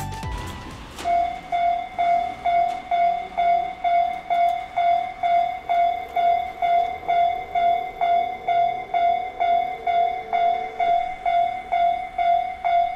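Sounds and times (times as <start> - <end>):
level-crossing alarm clanging: 0.3 - 12.9.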